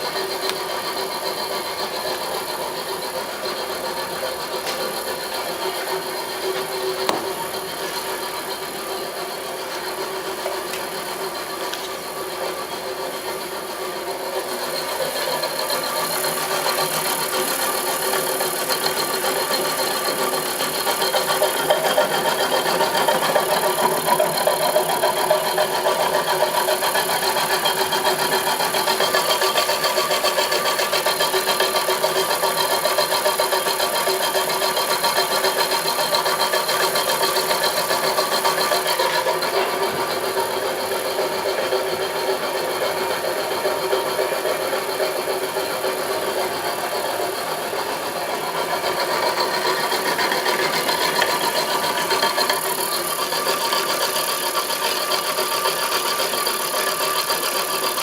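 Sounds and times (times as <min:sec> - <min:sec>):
grinding noise: 0:00.0 - 0:54.2
milling machine motor whine: 0:00.0 - 0:58.0.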